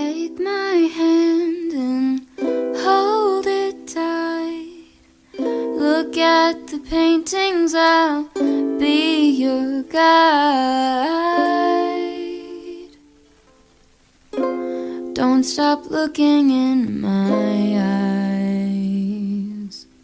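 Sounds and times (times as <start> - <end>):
light tune with plucked strings: 0.0 - 13.7, 14.3 - 19.0.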